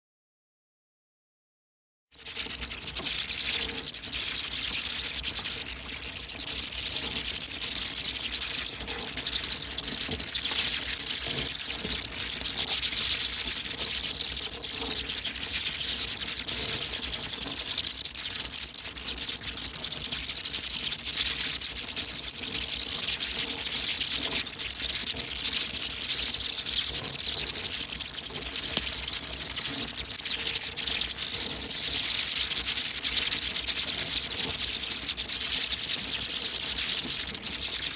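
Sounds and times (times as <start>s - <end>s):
bats squeaking and chittering: 2.2s - 37.9s.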